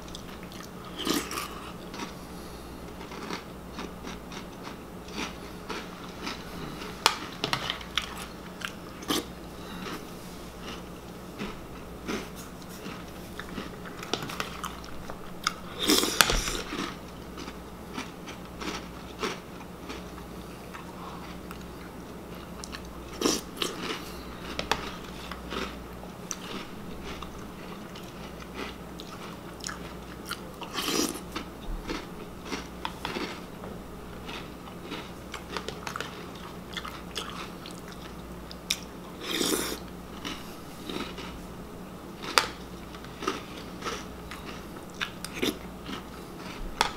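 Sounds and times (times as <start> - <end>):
cereal crunching close up: 2.9 - 33.4, 34.2 - 41.4, 42.2 - 46.9.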